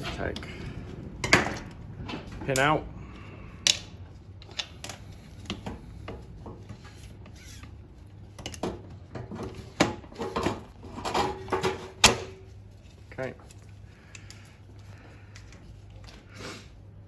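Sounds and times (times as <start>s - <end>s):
hand tools tapping and scraping metal: 0.0s - 7.7s, 8.3s - 16.2s.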